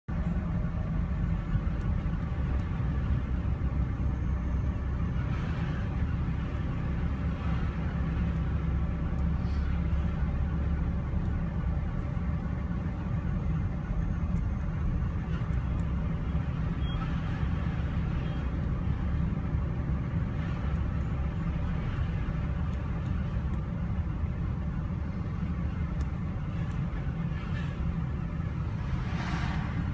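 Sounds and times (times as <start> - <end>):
motor vehicle engine rumble: 0.1 - 29.9.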